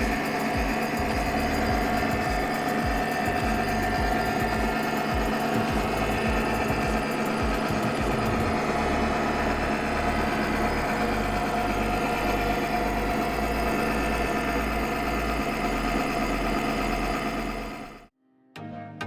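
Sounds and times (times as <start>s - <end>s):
roll mill motor humming: 0.0s - 18.1s.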